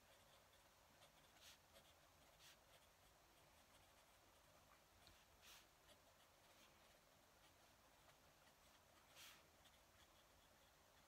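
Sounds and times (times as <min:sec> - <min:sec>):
pen nib scratching on paper: 0:00.0 - 0:11.0.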